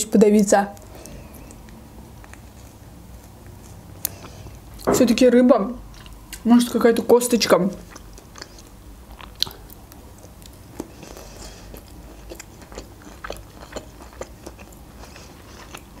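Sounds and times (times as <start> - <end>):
person chewing: 0.8 - 4.9, 5.9 - 6.4, 7.8 - 16.0.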